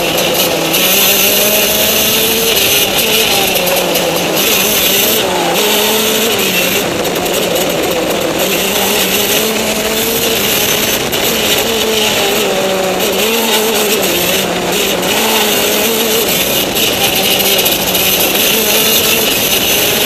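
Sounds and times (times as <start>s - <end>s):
go-kart engine: 0.0s - 20.0s.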